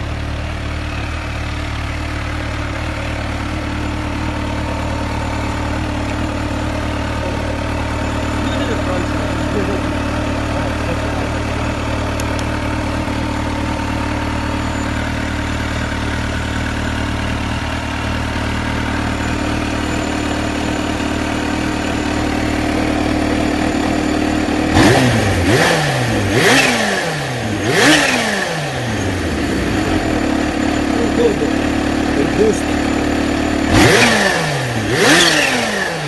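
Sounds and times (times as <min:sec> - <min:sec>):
motorcycle engine idling: 0:00.0 - 0:36.0
motorcycle engine revving: 0:00.0 - 0:36.0.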